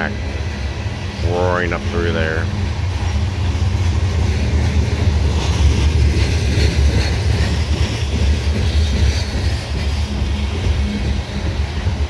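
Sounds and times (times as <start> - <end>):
freight train rolling past: 0.0 - 12.0
wheels clattering on rails: 0.0 - 12.0.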